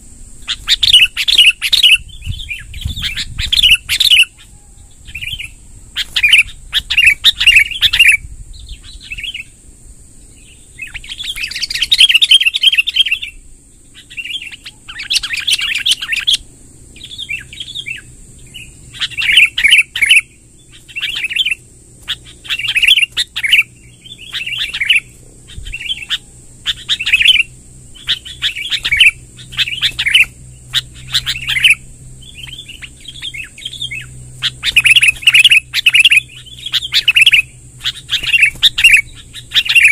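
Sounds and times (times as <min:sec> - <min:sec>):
bulbuls singing: 0:00.0 - 0:39.9.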